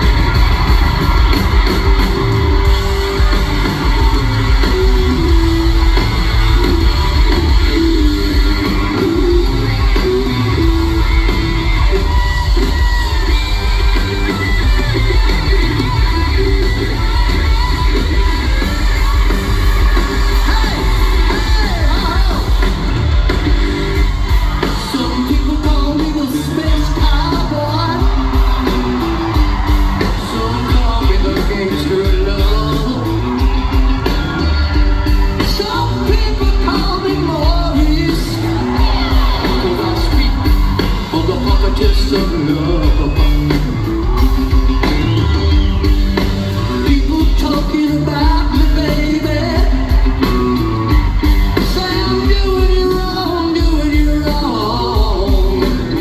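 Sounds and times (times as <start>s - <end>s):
crowd shouting: 0.0s - 56.0s
live rock band: 0.0s - 56.0s
singer singing: 0.0s - 56.0s.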